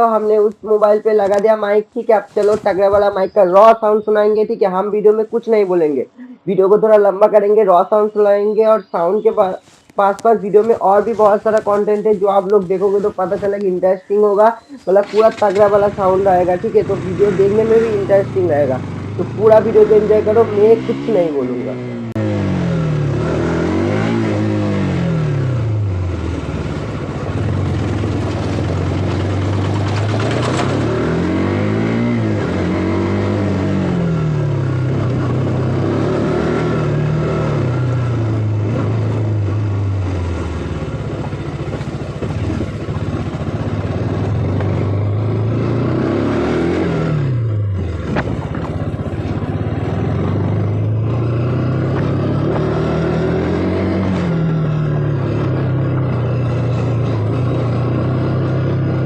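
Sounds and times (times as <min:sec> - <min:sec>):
motorcycle engine revving: 0:00.0 - 0:06.0, 0:07.2 - 0:59.0.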